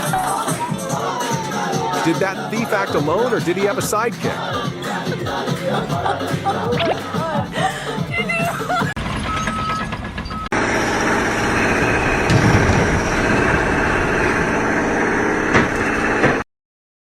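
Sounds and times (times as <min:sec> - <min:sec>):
heavy vehicle engine rumbling: 0:00.0 - 0:16.4.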